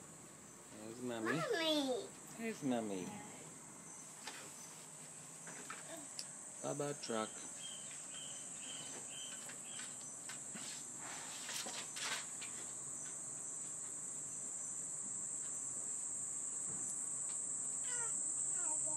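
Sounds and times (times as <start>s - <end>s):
insects chorus: 0.0s - 18.9s.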